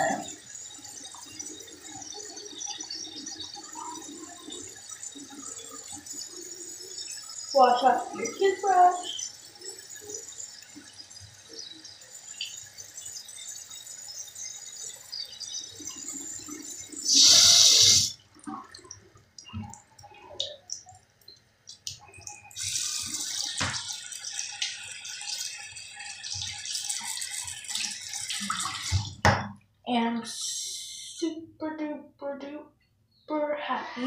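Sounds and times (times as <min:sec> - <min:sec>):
tap water running: 0:00.0 - 0:29.6.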